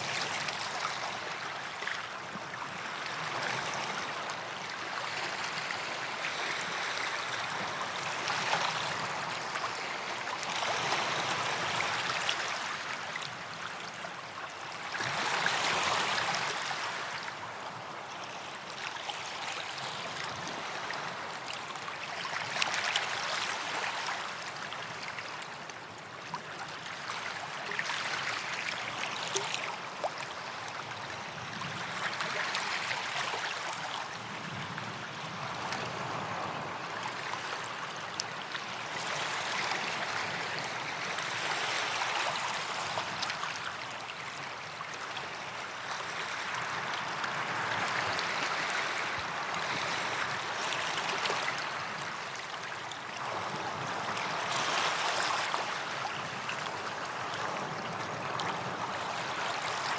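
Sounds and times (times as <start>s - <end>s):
small waves washing on beach: 0.0s - 59.9s.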